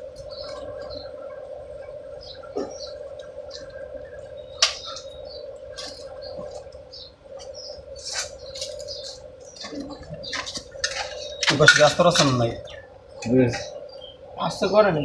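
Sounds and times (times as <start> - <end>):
small birds chirping: 0.0 - 15.0
steady hum: 0.0 - 15.0.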